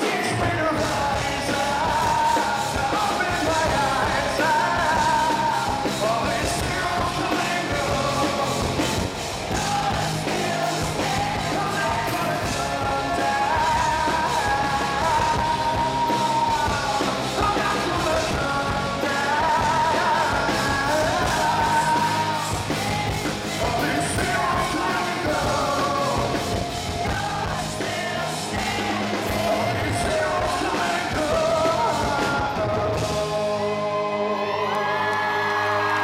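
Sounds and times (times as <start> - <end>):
electric guitar: 0.0 - 36.0
man singing: 0.0 - 36.0
drum beat: 0.8 - 33.0.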